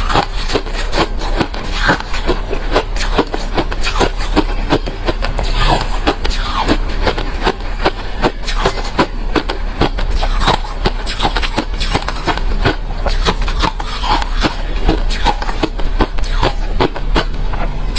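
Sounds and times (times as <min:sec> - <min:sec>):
person chewing crunchy ice: 0:00.0 - 0:17.9.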